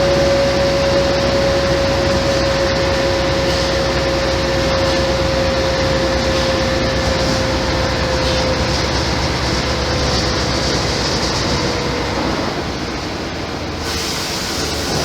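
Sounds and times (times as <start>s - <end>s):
gearbox whine: 0.0s - 13.8s
diesel bus engine rumble: 0.0s - 15.0s.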